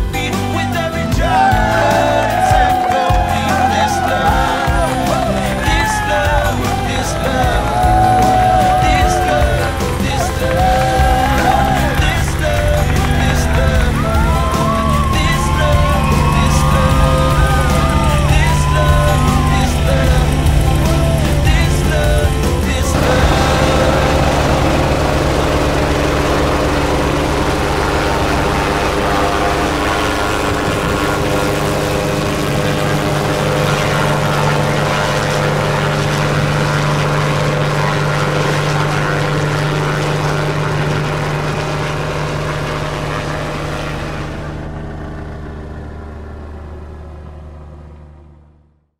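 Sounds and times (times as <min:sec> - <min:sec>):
helicopter engine and rotor: 0:00.9 - 0:48.7.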